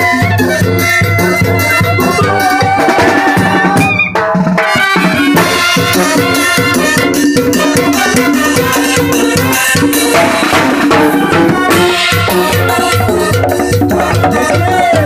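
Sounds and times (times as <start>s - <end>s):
drum kit and cymbals beat: 0.0s - 15.0s
live band playing latin dance music: 0.0s - 15.0s.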